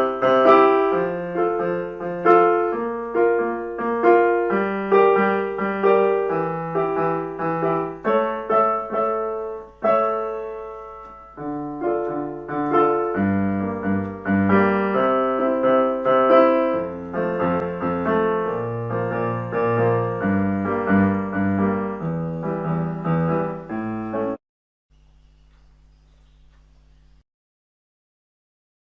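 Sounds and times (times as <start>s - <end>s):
piano notes and chords: 0.0s - 24.4s.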